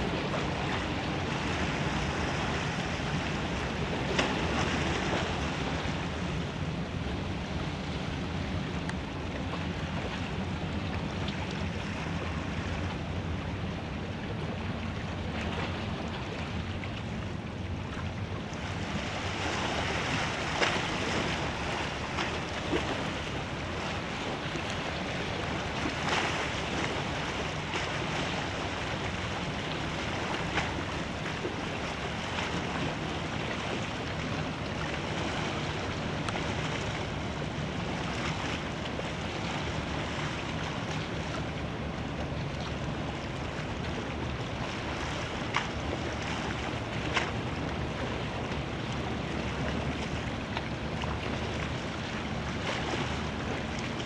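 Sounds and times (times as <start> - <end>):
water washing along hull: 0.0 - 54.0.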